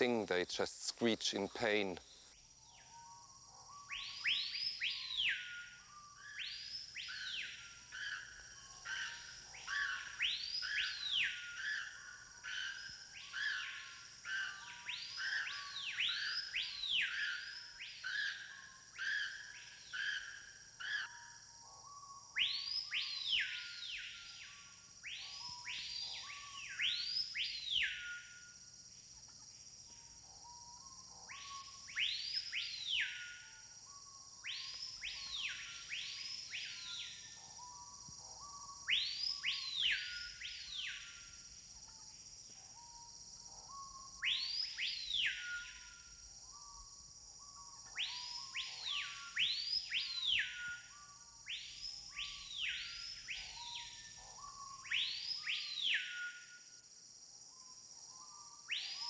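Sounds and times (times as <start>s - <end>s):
high insect drone: 0.0s - 59.0s
loud whistled bird calls: 2.6s - 28.6s, 30.0s - 41.4s, 42.7s - 56.7s, 57.5s - 59.0s.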